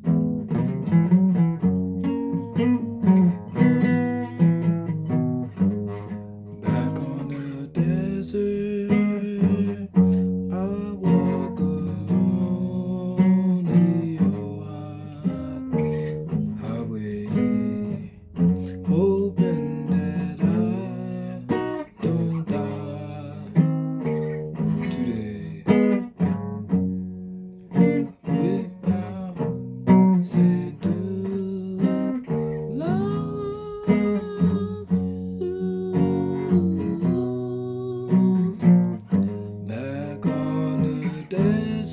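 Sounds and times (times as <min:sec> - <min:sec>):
guitar playing notes and chords: 0:00.0 - 0:41.9.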